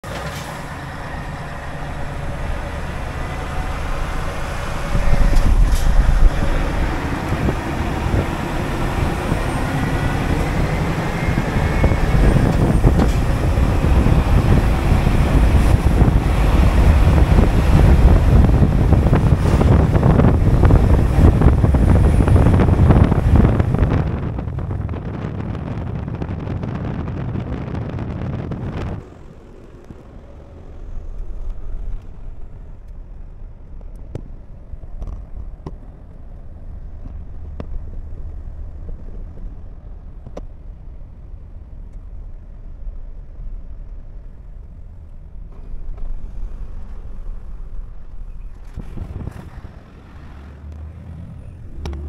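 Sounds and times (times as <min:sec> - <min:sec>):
truck engine low rumble: 0:00.0 - 0:52.0
wind and road noise rushing: 0:00.0 - 0:52.0.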